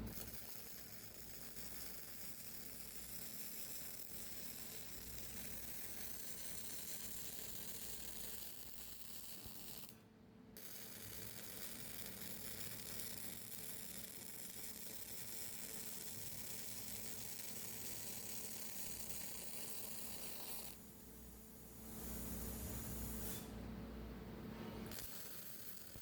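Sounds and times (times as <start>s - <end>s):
welding arc crackling: 0.0s - 10.0s, 10.6s - 23.5s, 24.9s - 26.0s.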